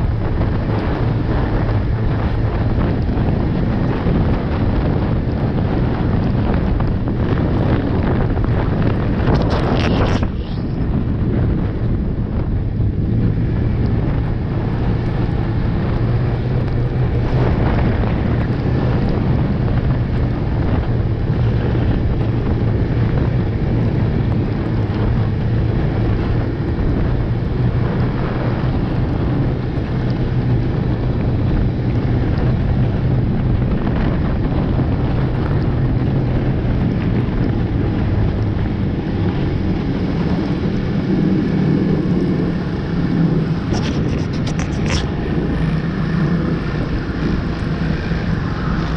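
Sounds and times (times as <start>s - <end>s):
snowmobile engine running: 0.0s - 48.9s
wind noise on microphone: 0.0s - 48.9s.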